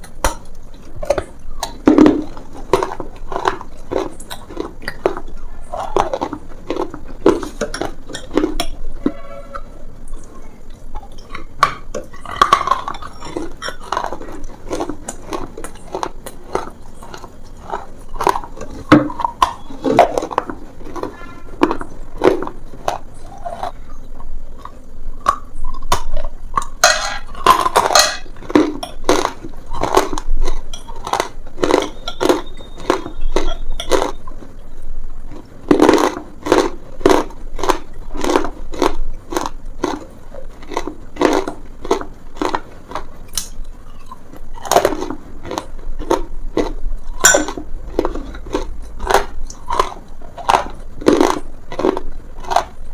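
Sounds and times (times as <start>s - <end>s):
crumbly paste crunching: 0.0s - 52.9s.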